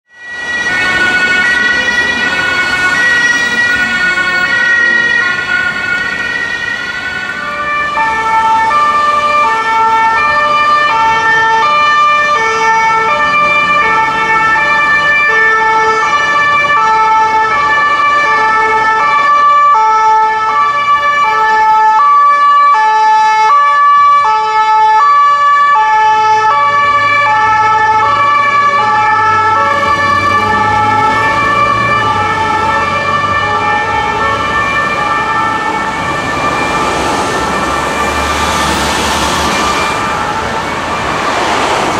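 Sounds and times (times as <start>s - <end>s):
ambulance two-tone siren: 0.0s - 41.9s
traffic noise: 0.1s - 41.9s.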